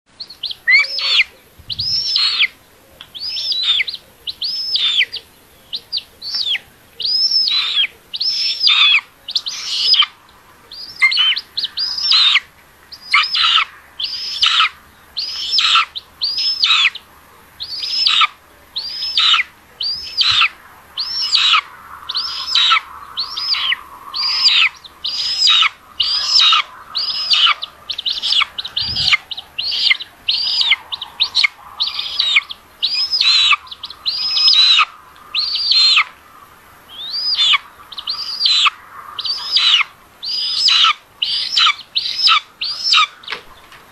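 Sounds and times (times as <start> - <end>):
nestlings begging calls: 0.2 - 43.7.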